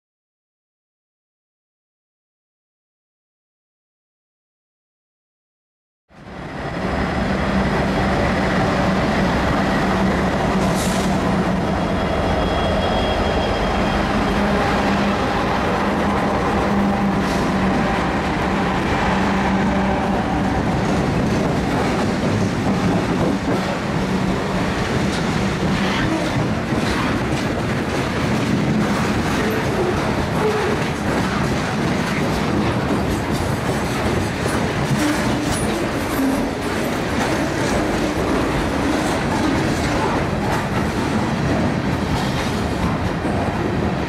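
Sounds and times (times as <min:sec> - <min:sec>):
diesel locomotives droning: 0:06.2 - 0:44.0.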